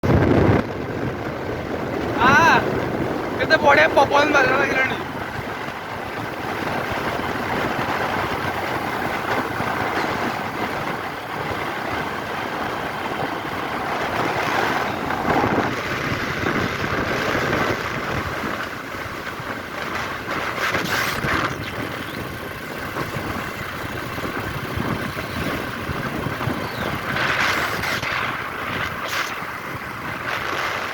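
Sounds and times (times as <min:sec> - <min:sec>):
vehicles passing: 0:00.0 - 0:30.9.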